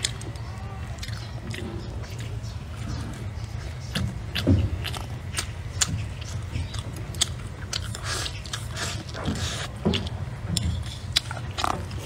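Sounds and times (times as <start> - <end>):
person chewing meat: 0.0 - 12.0.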